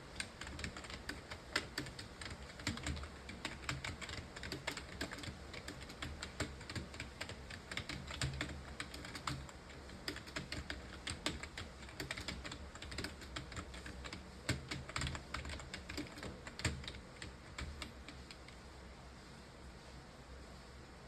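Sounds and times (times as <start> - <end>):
keyboard typing: 0.0 - 18.6.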